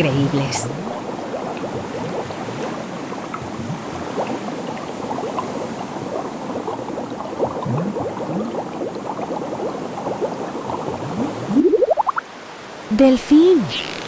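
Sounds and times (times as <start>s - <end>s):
water bubbling and gurgling: 0.0s - 12.4s.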